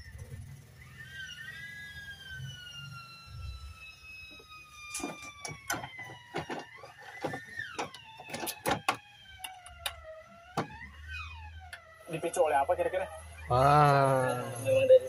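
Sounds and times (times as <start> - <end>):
siren-like wail: 0.6 - 15.0.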